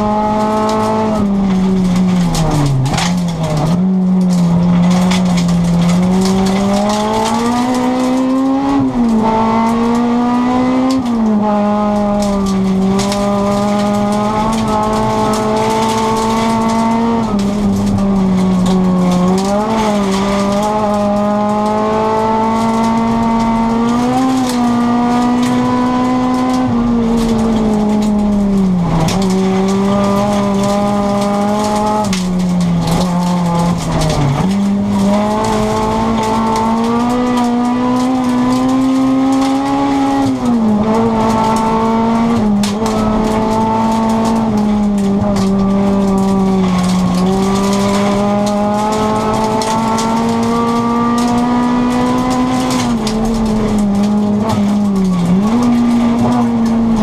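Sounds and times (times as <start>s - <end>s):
car engine at high revs: 0.0s - 57.0s.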